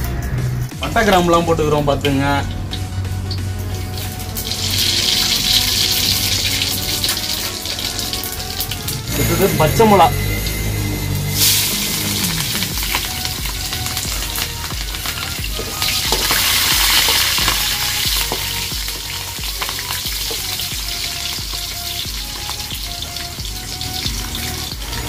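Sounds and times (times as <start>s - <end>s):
chillies sizzling in hot oil: 2.6s - 25.0s.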